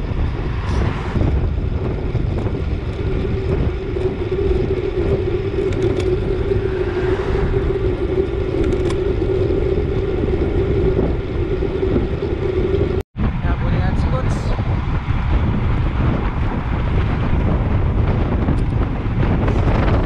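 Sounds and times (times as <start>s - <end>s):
constant low hum: 0.0s - 20.0s
road noise: 0.0s - 20.0s
wind buffeting microphone: 0.0s - 20.0s.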